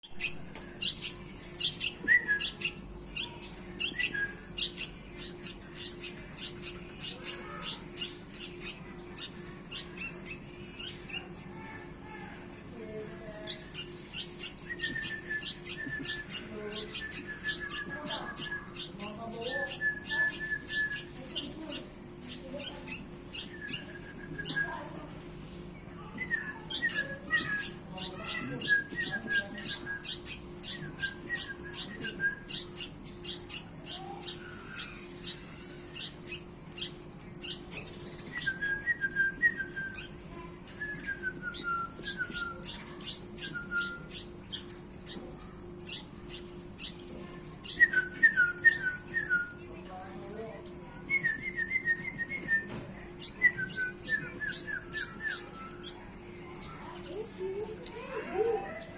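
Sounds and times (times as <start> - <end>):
small bird chipping and whistling: 0.0 - 11.4, 13.1 - 25.0, 26.0 - 49.7, 50.6 - 57.4.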